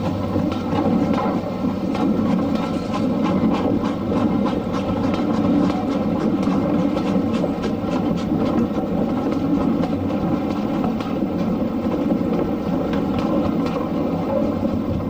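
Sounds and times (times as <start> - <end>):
train rumbling along track: 0.0 - 15.0
wheels clicking on rails: 0.0 - 15.0.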